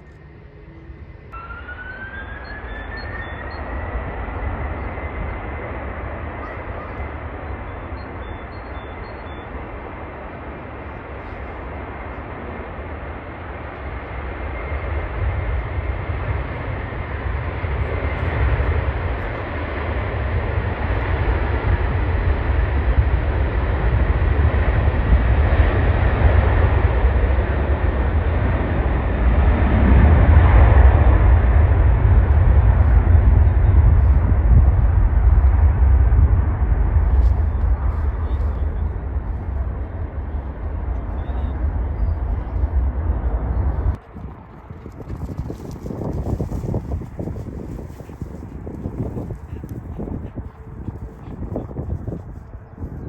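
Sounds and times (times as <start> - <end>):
jet airliner engines rumbling: 0.0 - 53.0.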